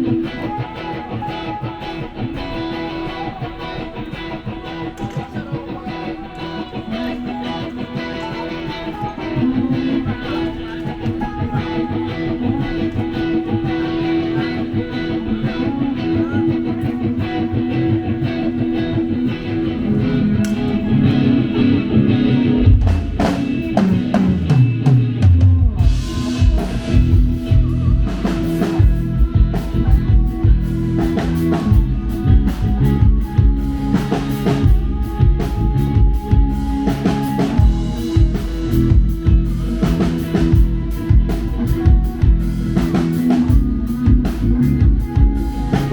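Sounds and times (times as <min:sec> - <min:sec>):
bass guitar: 0:00.0 - 0:45.9
drum kit beat: 0:00.0 - 0:45.9
electric guitar: 0:00.0 - 0:45.9.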